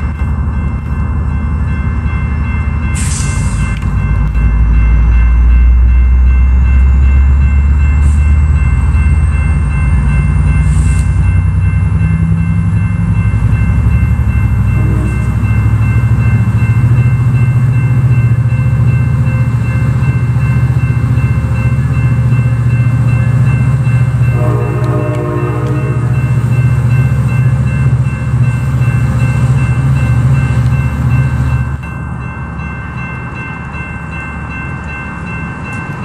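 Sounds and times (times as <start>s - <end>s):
diesel locomotive engine rumble: 0.0s - 36.0s.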